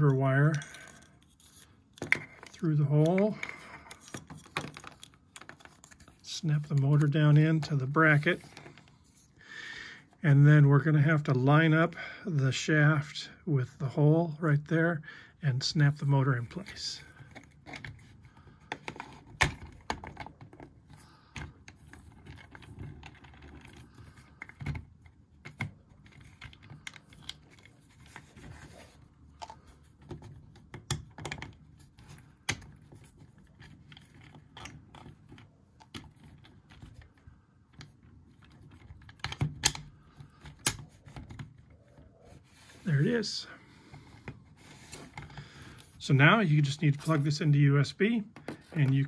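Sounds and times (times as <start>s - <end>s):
plastic parts clicking and scraping: 0.0s - 9.3s, 16.4s - 49.0s.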